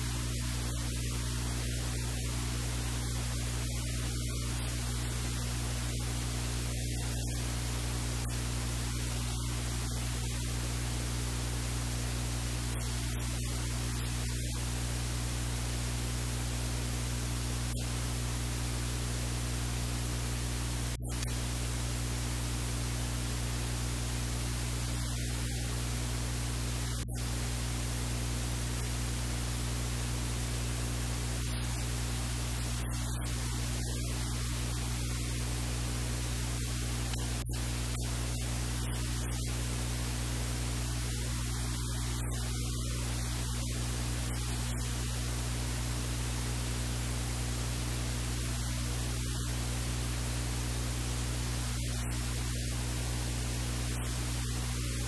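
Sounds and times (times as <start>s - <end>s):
low electrical hum: 0.0s - 55.0s
steady hiss: 0.0s - 55.0s.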